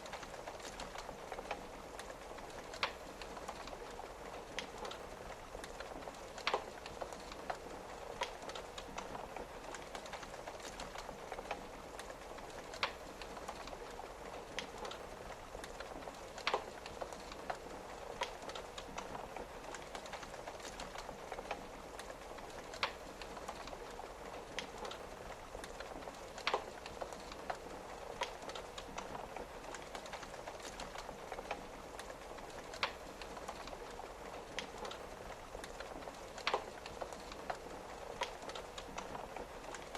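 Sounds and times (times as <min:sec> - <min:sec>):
rain on a window: 0:00.0 - 0:39.9
wood fire crackling: 0:00.0 - 0:39.9.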